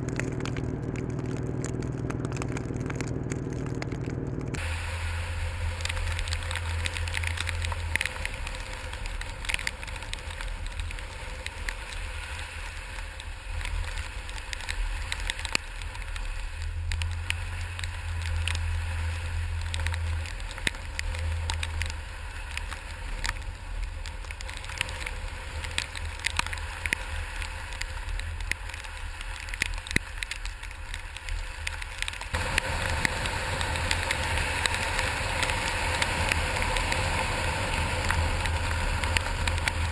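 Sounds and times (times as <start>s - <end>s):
low steady rumble: 0.0s - 39.9s
wet snow pattering: 0.0s - 39.9s.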